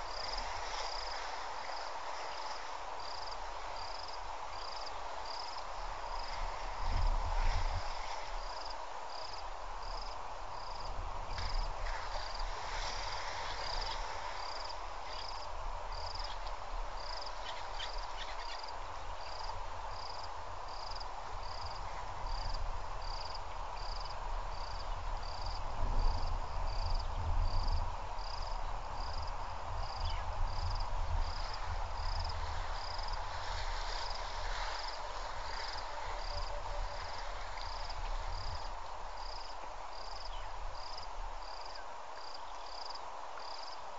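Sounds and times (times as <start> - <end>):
insect chirping: 0.0 - 43.9.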